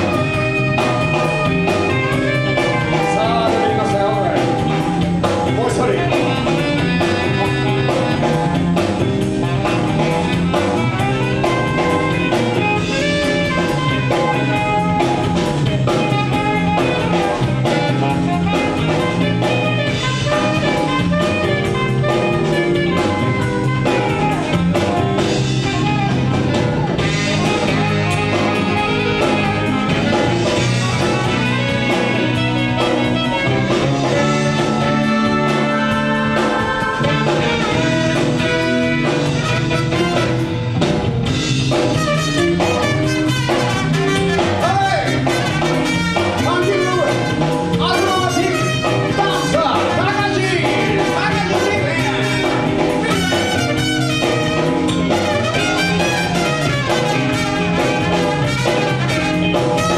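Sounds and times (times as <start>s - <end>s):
live funk band playing: 0.0s - 59.9s.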